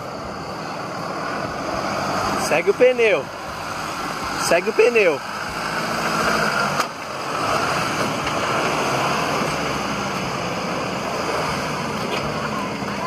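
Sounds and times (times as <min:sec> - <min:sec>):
constant rushing noise: 0:00.0 - 0:13.0
truck engine running at low revs: 0:00.0 - 0:13.0.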